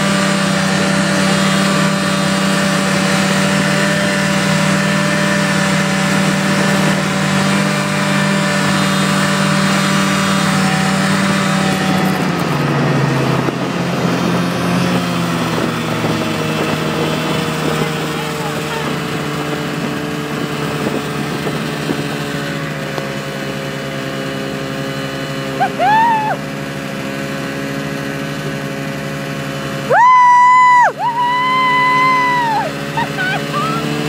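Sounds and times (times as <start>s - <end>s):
snowmobile engine droning: 0.0s - 34.0s.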